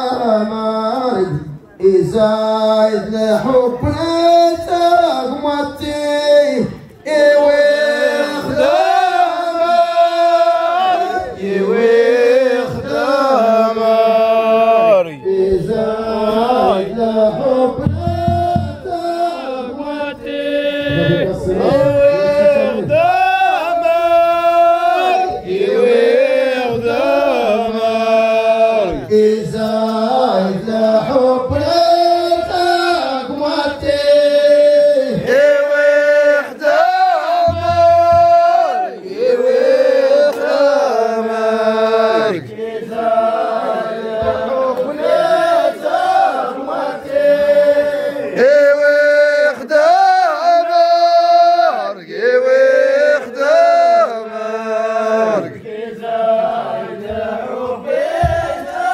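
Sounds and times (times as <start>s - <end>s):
group of men chanting: 2.2s - 58.9s.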